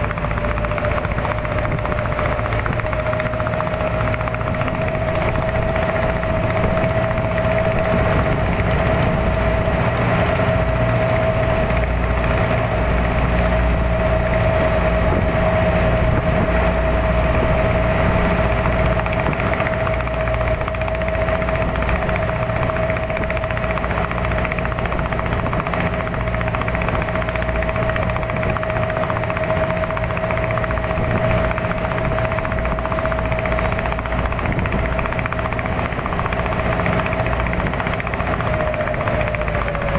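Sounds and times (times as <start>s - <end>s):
motor whining steadily: 0.0s - 39.9s.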